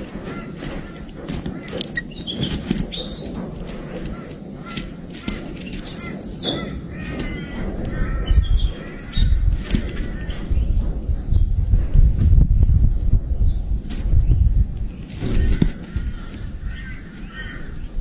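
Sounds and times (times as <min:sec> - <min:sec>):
young kestrel calling: 0:00.0 - 0:11.3, 0:13.6 - 0:18.0
low rumble: 0:00.0 - 0:18.0.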